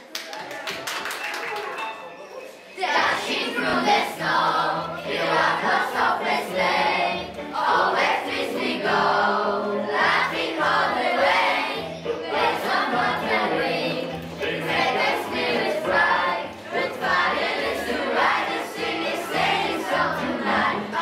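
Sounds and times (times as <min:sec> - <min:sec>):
children singing in chorus: 0:02.8 - 0:21.0.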